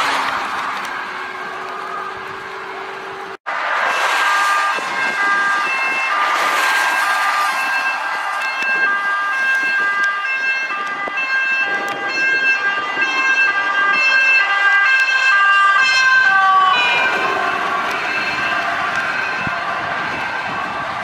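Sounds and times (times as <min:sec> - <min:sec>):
fire engine two-tone sirens: 0:00.0 - 0:21.0.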